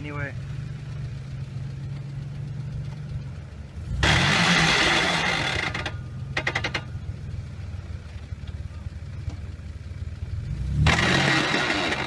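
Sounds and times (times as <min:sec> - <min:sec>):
engine labouring and revving: 0:00.0 - 0:12.0.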